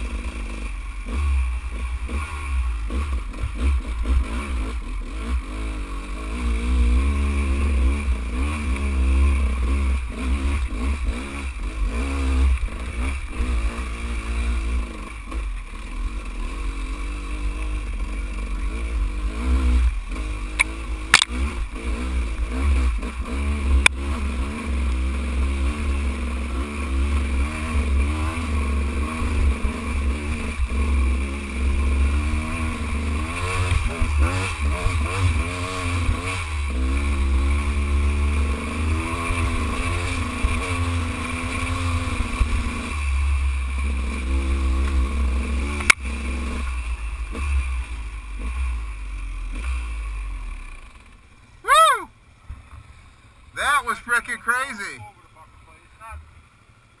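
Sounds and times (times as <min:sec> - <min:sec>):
dirt bike engine revving: 0:00.0 - 0:52.1, 0:52.9 - 0:56.8.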